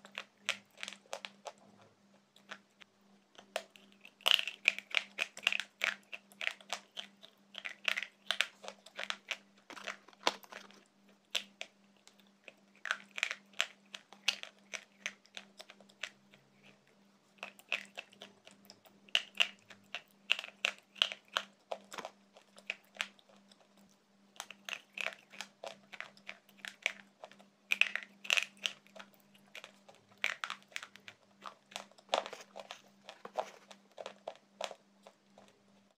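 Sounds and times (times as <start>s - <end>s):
chewing crunches: 0.0s - 36.0s
faint low hum: 0.0s - 36.0s.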